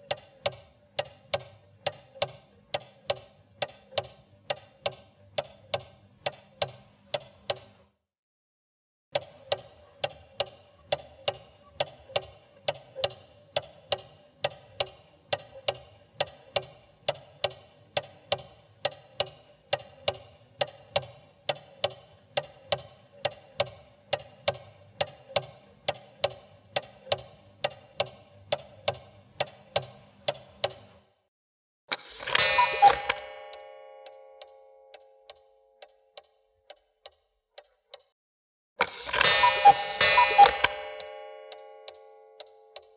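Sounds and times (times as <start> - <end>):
clock ticking: 0.0 - 7.9, 9.2 - 31.0, 31.9 - 38.1, 38.8 - 42.9.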